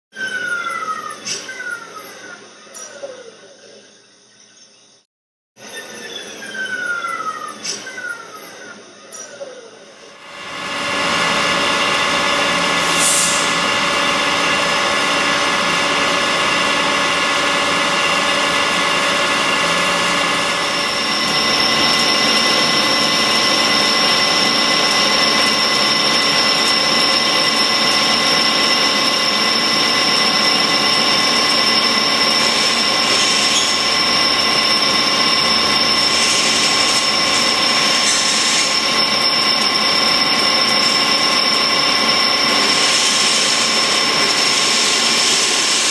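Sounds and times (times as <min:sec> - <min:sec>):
machine tool whine: 0:05.6 - 0:45.9.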